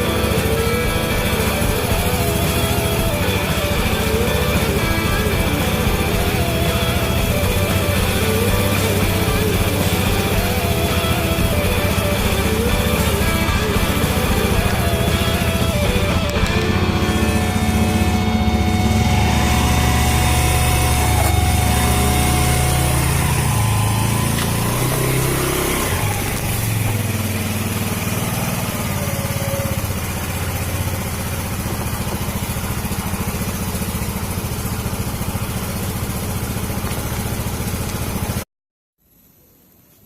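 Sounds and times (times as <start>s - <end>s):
motorcycle engine running: 0.0s - 38.5s.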